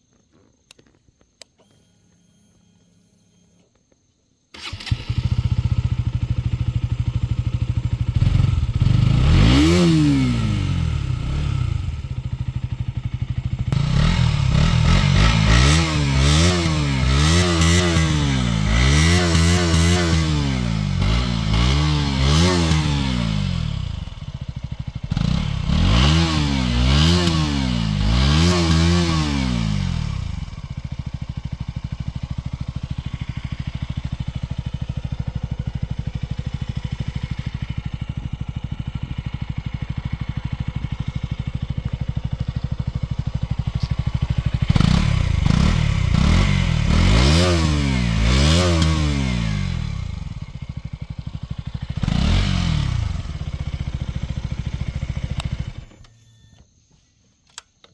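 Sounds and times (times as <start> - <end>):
motorcycle engine idling: 4.6 - 56.1
motorcycle engine revving: 4.6 - 56.1.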